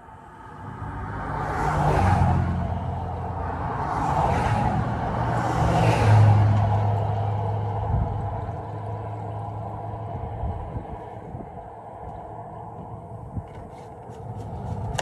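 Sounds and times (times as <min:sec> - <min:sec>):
low engine hum: 0:00.0 - 0:15.0
vehicles whooshing past: 0:00.0 - 0:15.0.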